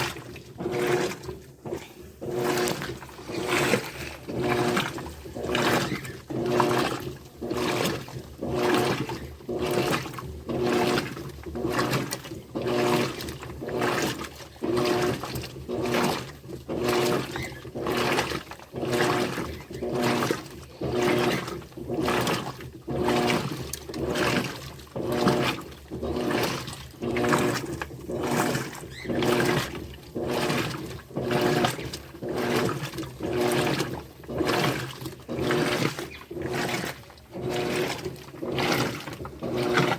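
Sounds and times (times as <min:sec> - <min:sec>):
washing machine motor hum: 0:00.0 - 0:39.9
water sloshing in washing machine: 0:00.0 - 0:39.9.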